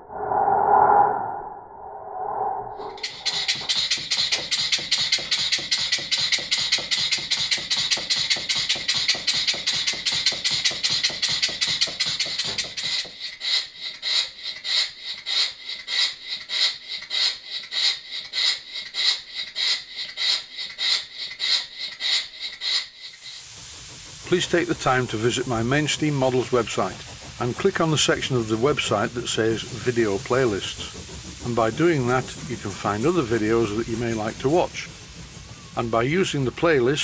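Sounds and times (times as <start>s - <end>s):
model steam engine exhaust beats: 3.0s - 37.0s.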